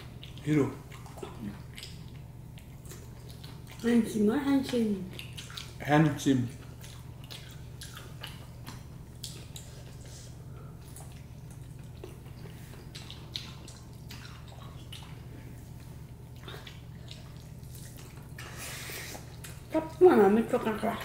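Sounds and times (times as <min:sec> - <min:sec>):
chewing mouth smacks: 0:00.0 - 0:03.9, 0:04.6 - 0:05.8, 0:06.5 - 0:20.0
steady low hum: 0:00.0 - 0:21.0.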